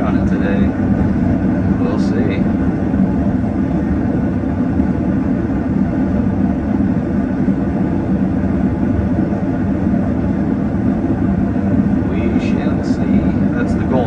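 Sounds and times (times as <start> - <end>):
gas burner flame rushing: 0.0 - 14.0
small fan blowing air: 0.0 - 14.0.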